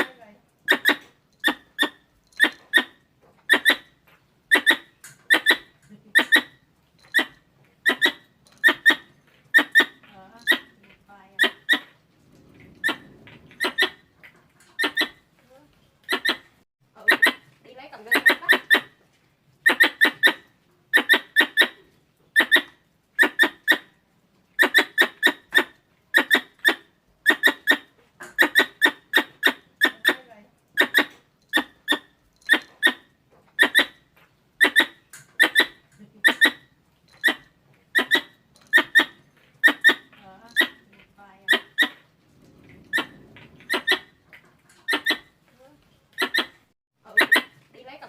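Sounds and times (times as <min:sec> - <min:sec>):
squirrel chirping calls: 0:00.6 - 0:12.0, 0:12.7 - 0:15.3, 0:16.0 - 0:19.0, 0:19.6 - 0:24.0, 0:24.6 - 0:42.0, 0:42.8 - 0:45.4, 0:46.1 - 0:47.6.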